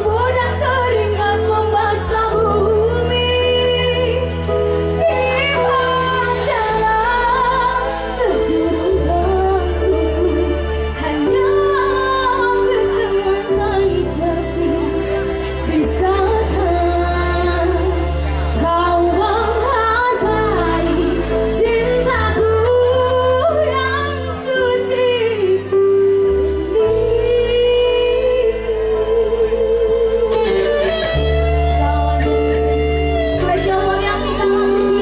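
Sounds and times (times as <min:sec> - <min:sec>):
band playing over loudspeakers: 0:00.0 - 0:35.0
woman singing: 0:00.0 - 0:35.0.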